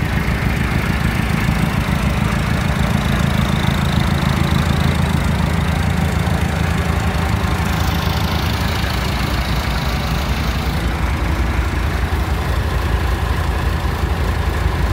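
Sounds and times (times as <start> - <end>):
tractor diesel engine idling: 0.0 - 14.9.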